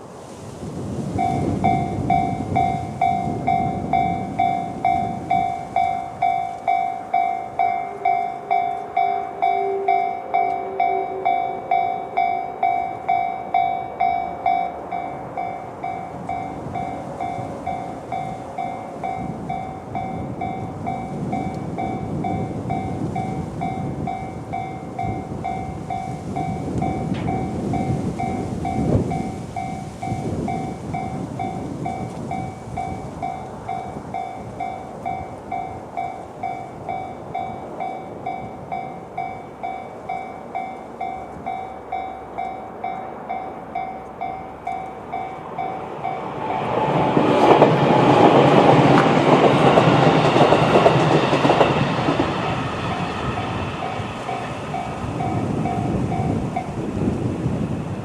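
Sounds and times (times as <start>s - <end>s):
electric train passing: 0.0s - 58.0s
level crossing alarm ringing: 1.2s - 46.3s, 51.2s - 57.1s.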